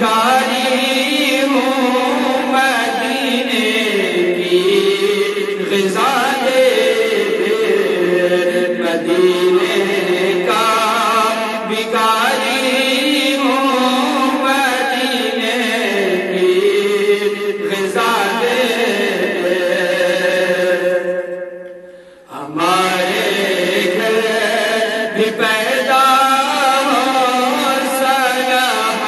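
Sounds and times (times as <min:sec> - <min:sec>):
man singing devotional song: 0:00.0 - 0:29.0.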